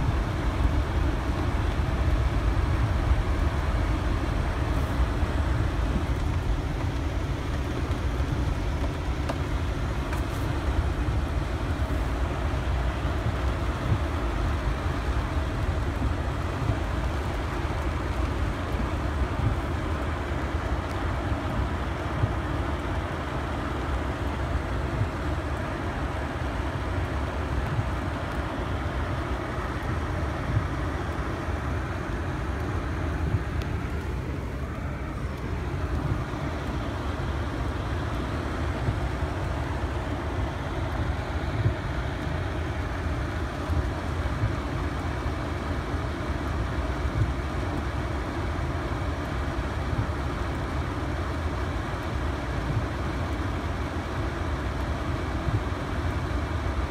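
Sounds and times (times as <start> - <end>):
car engine rumble from inside: 0.0 - 56.9
rain on windshield: 0.0 - 56.9.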